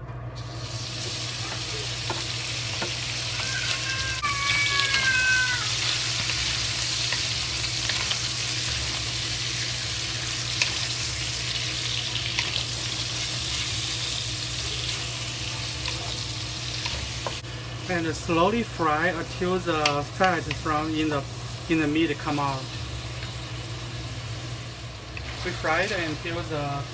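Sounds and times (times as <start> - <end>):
meat sizzling in hot oil: 0.4 - 26.9.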